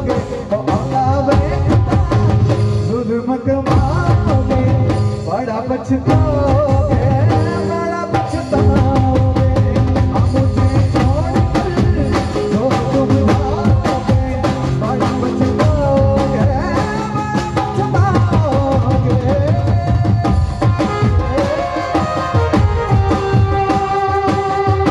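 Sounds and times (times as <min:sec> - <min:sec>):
dhol and drums beat: 0:00.0 - 0:24.9
keyboard melody: 0:00.0 - 0:24.9
live band through speakers: 0:00.0 - 0:24.9
man singing: 0:00.0 - 0:24.9.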